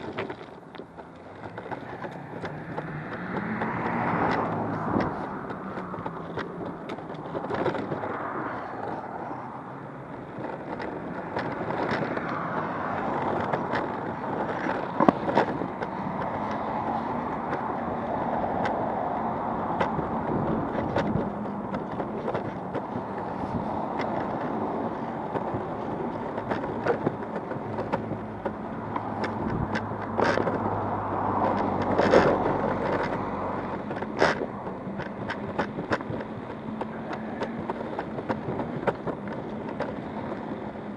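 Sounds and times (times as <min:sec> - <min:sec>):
sharp knocks and clicks: 0:00.0 - 0:40.9
skateboard wheels rolling on pavement: 0:00.0 - 0:40.9.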